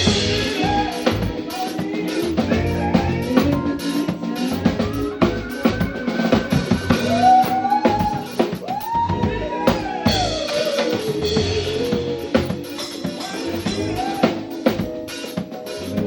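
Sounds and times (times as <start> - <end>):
drum kit: 0.0 - 16.0.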